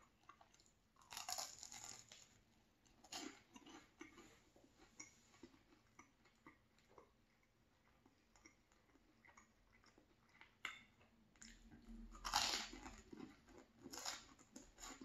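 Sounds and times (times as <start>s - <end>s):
chewing and crunching toast: 0.0s - 15.0s.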